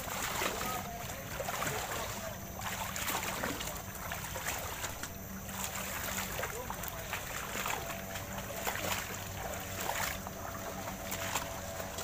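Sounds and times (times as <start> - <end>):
boots splashing in water: 0.0 - 12.0.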